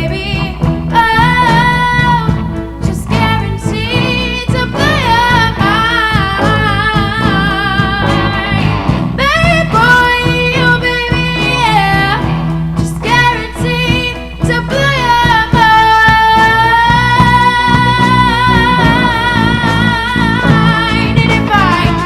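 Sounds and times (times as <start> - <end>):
live rock band playing: 0.0 - 22.0
person singing: 0.0 - 22.0.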